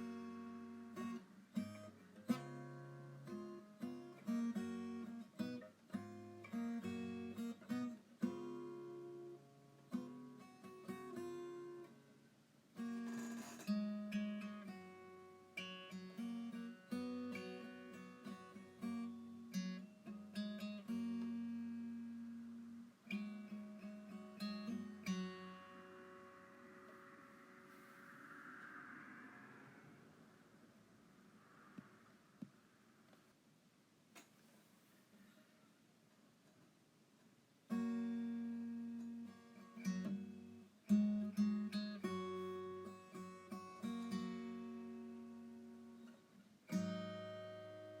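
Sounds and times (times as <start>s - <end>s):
acoustic guitar music: 0.0s - 28.1s, 37.6s - 48.0s.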